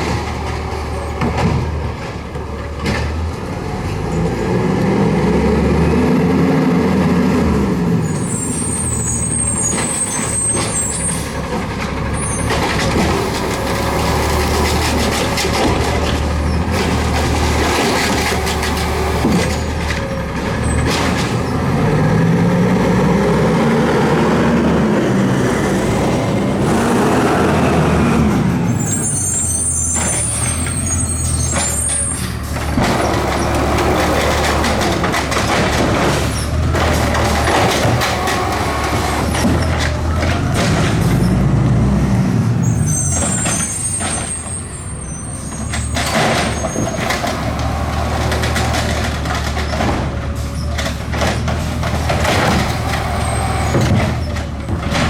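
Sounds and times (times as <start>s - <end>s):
garbage truck engine revving: 0.0s - 55.0s.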